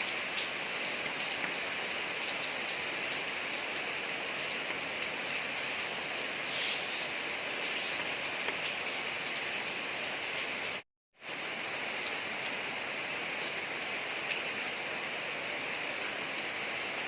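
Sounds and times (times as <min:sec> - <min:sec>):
rain falling on a street: 0:00.0 - 0:17.0.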